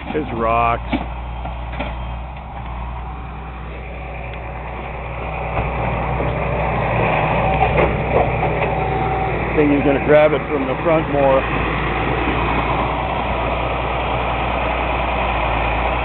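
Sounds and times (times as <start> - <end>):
large engine running: 0.0 - 16.0.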